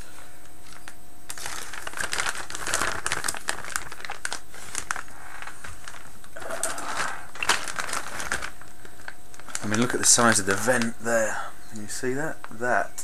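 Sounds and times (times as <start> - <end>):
plastic bag crinkling: 0.6 - 11.2.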